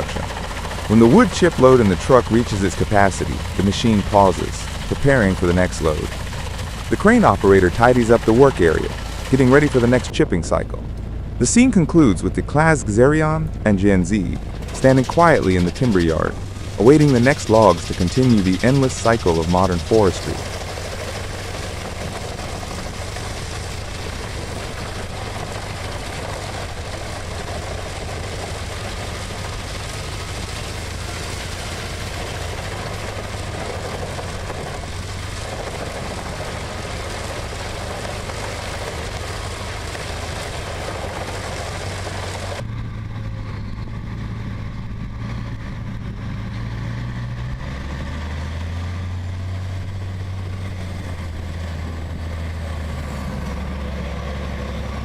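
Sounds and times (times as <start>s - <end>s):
deep engine note: 0.0s - 55.0s
rough mechanical noise: 0.0s - 55.0s.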